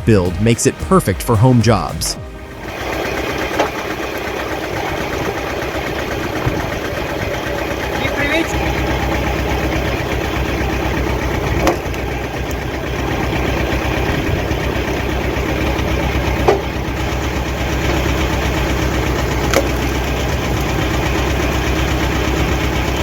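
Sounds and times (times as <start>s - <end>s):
log splitter engine running: 0.0s - 23.0s.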